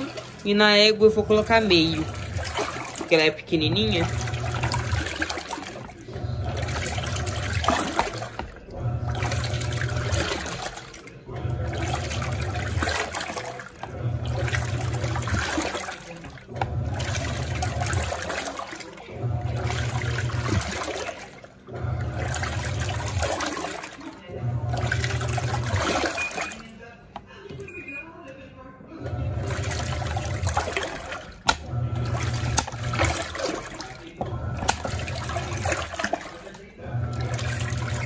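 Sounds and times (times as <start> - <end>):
water churning and sloshing: 0.0 - 28.1, 28.9 - 38.0
washing machine motor humming: 0.0 - 38.0.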